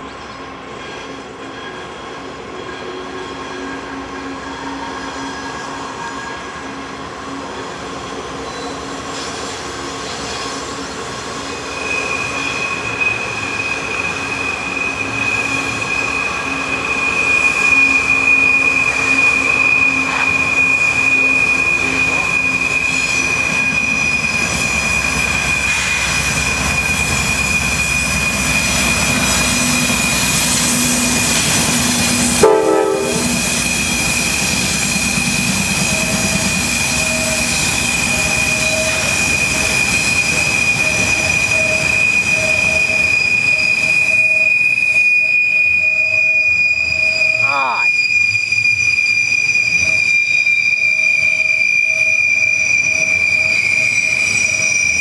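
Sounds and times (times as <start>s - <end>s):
high-pitched wheel squeal: 0.8s - 6.8s, 8.4s - 9.4s, 10.2s - 55.0s.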